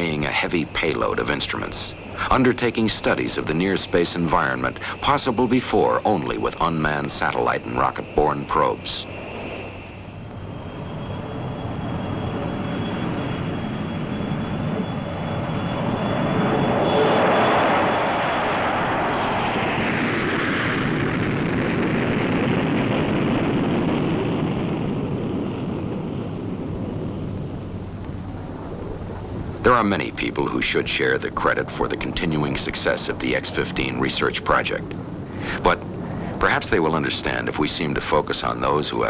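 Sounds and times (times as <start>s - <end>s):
jet aircraft roar with whine: 0.0s - 39.0s.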